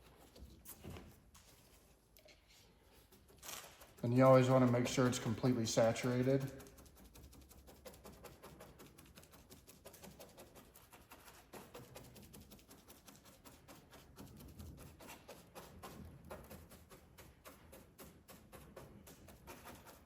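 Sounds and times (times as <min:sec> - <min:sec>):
brush dabbing resin: 0:00.0 - 0:20.0.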